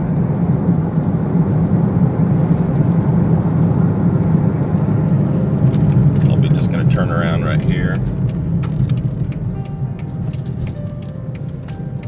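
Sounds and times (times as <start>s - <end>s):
car cabin road drone: 0.0s - 12.0s.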